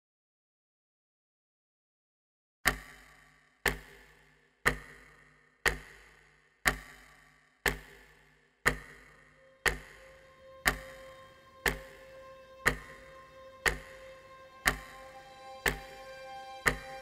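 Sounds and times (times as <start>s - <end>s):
clock-like ticking: 2.7s - 17.0s.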